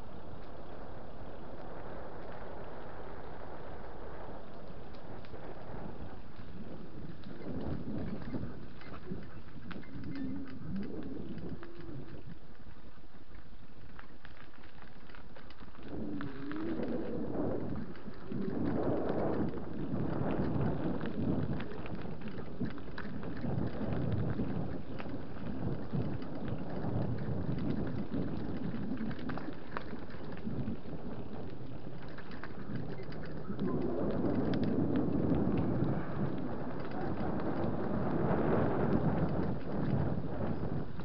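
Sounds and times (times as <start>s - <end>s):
gravel crackling under wheels: 0.0s - 41.0s
wind buffeting microphone: 0.0s - 41.0s.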